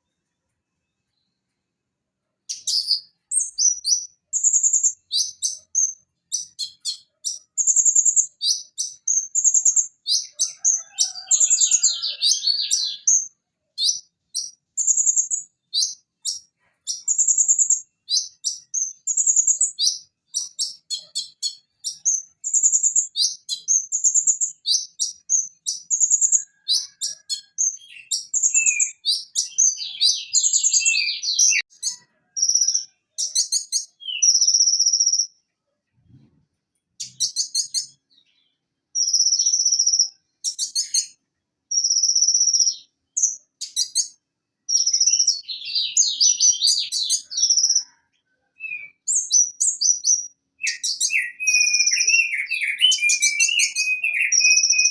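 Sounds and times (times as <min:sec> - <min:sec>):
bird chirps and trills: 0:02.5 - 0:35.4, 0:37.0 - 0:48.0, 0:48.6 - 0:54.9.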